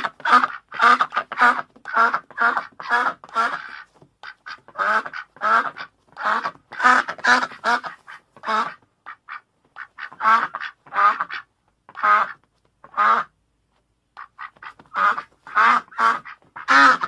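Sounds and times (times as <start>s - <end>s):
duck quacking: 0.0s - 13.4s, 14.2s - 17.0s.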